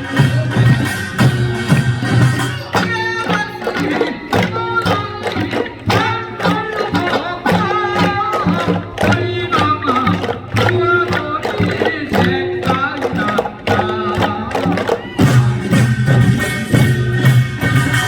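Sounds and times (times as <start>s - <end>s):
drums and percussion beating: 0.0s - 18.0s.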